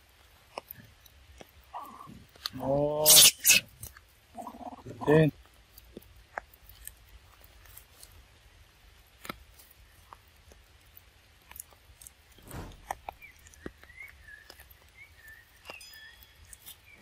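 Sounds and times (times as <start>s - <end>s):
monkeys chewing with clicks and smacks: 0.0s - 17.0s
rustle: 0.0s - 17.0s.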